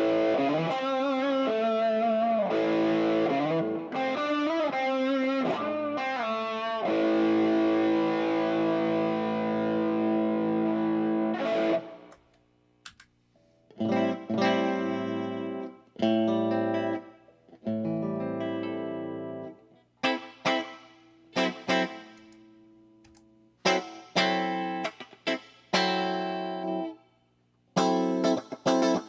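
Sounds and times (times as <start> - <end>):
electric guitar through an amp: 0.0 - 12.2, 13.7 - 27.0, 27.8 - 29.0.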